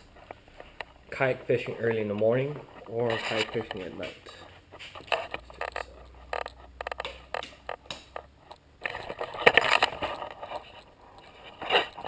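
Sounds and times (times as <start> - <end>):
rustling and scraping: 0.0 - 12.0.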